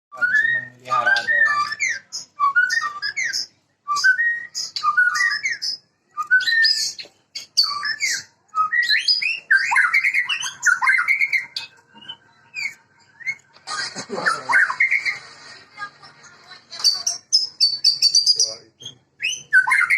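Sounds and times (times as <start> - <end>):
bird singing whistles and chirps: 0.1 - 13.5, 16.9 - 19.9.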